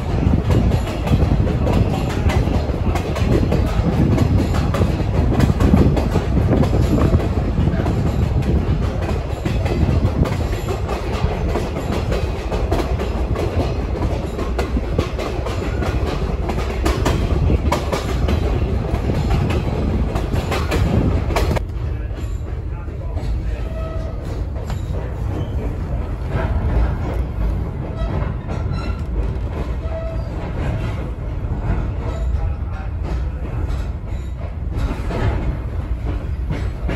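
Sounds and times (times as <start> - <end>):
train car rumbling: 0.0 - 36.9
wheels clicking on rails: 0.0 - 36.9.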